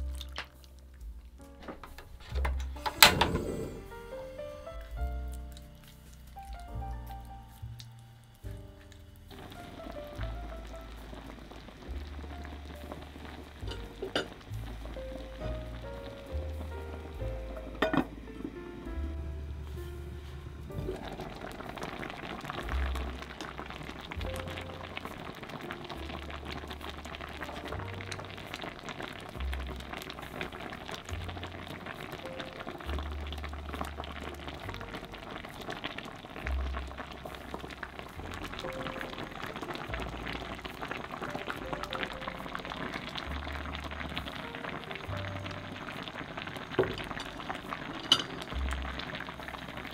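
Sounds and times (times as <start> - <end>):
sauce bubbling and popping: 0.0 - 49.9
soft background music: 0.0 - 49.9.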